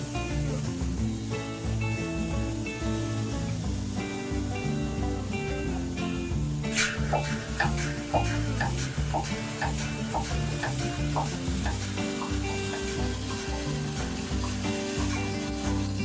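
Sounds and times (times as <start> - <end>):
background music with steady beat: 0.0 - 16.0.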